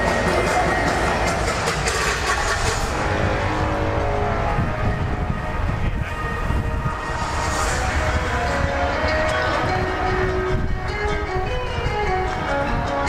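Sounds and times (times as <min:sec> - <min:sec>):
faint music: 0:00.0 - 0:13.0
wind buffeting microphone: 0:01.3 - 0:13.0.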